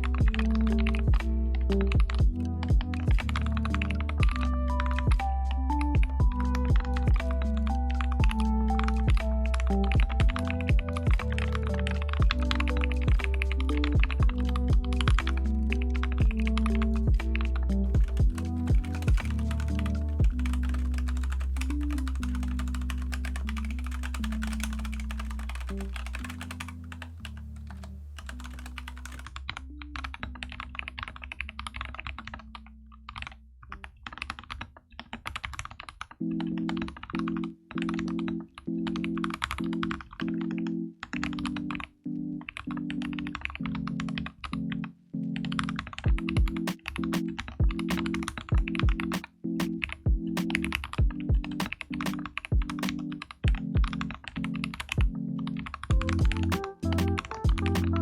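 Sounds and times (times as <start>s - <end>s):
background music with held chords: 0.0s - 33.9s, 36.2s - 58.0s
mechanical keyboard typing: 0.0s - 58.0s.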